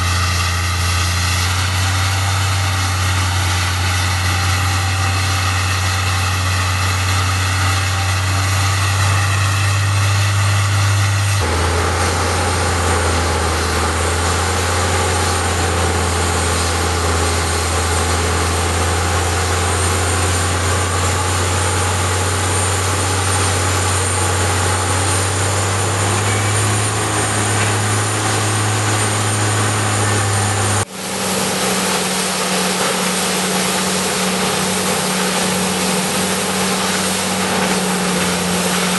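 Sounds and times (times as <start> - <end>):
heavy diesel engine droning: 0.0 - 38.9
hiss of wood chips: 0.0 - 38.9.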